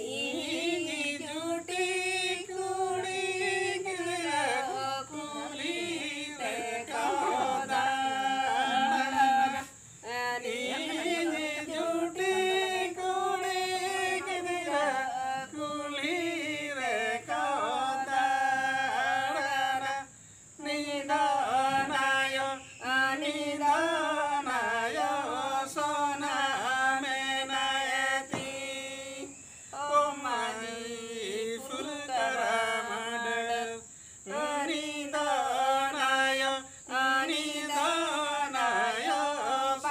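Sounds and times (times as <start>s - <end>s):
group singing without instruments: 0.0s - 39.9s.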